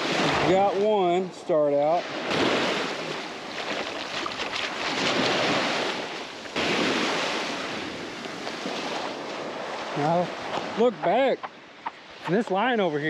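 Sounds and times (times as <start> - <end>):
surf waves washing over sand: 0.0 - 13.0.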